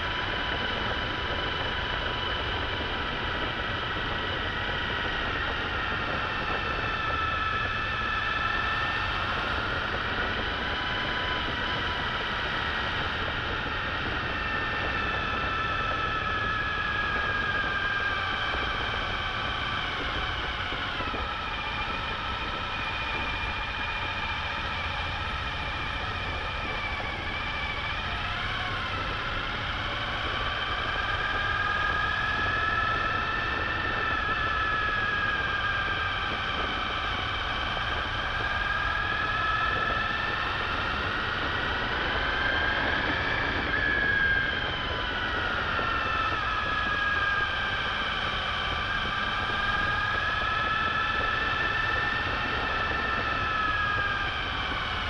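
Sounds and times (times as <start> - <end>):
constant low rumble: 0.0 - 55.0.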